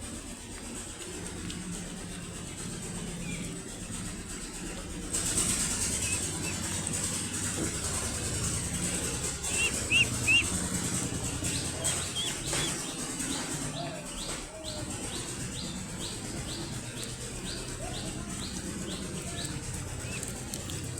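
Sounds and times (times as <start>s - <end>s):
ducklings peeping: 0.4s - 20.9s.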